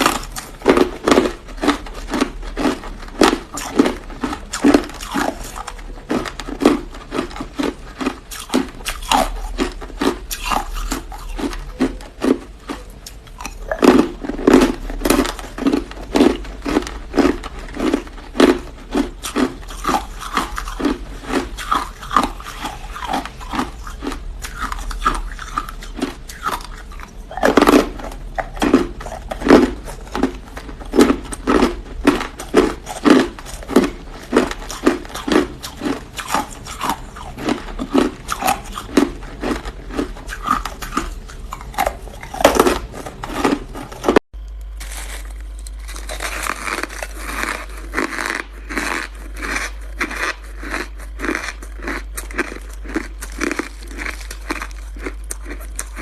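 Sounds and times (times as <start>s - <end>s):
chewing hard ice: 0.0s - 56.0s.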